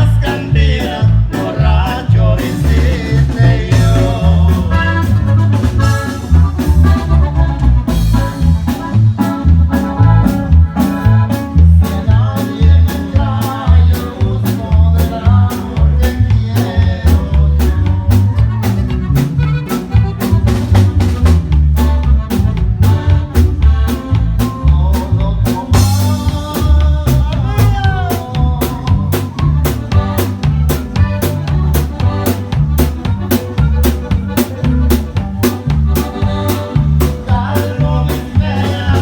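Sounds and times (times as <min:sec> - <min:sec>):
drum kit beat: 0:00.0 - 0:39.0
heavy bass: 0:00.0 - 0:39.0
keyboard melody: 0:00.0 - 0:39.0.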